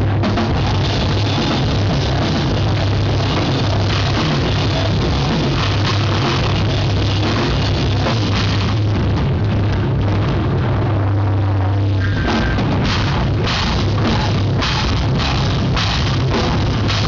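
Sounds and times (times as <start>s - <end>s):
drum kit and cymbals: 0.0s - 17.0s
heavy bass: 0.0s - 17.0s
rock band playing live: 0.0s - 17.0s.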